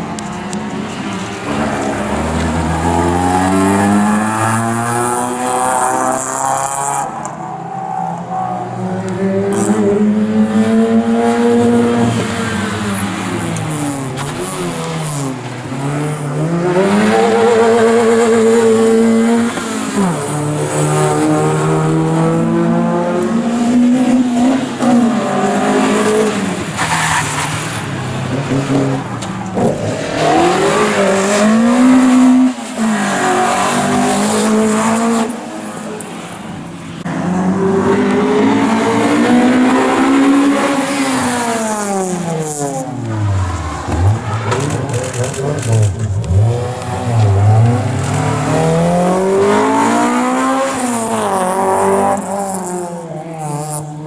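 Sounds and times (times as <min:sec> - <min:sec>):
rally car engines revving past: 0:00.0 - 0:54.0.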